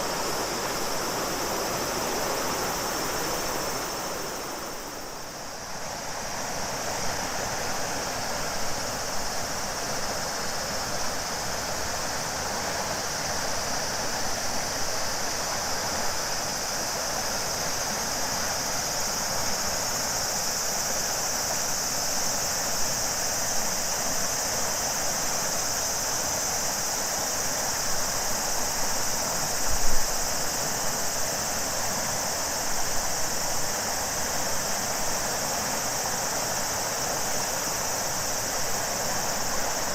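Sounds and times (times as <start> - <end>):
cicadas droning: 0.0 - 39.9
river water rushing: 0.0 - 39.9.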